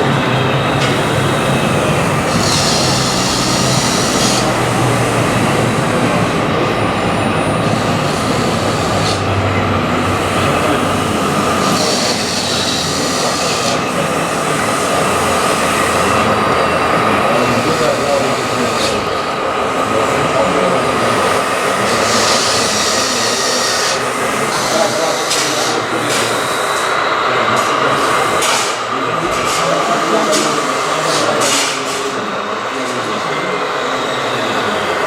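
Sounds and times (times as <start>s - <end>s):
rc model trucks running: 0.0s - 35.0s.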